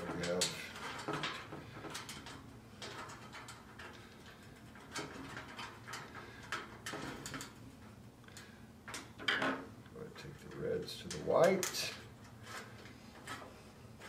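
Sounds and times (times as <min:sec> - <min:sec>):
wires being handled and twisted: 0:00.0 - 0:14.0.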